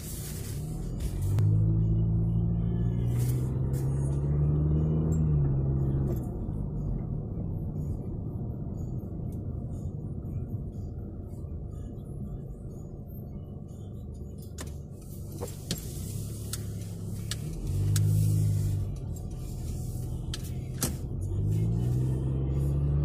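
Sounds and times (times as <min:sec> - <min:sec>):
low droning hum: 0:00.0 - 0:22.7
car engine and tyre rumble: 0:00.0 - 0:23.0.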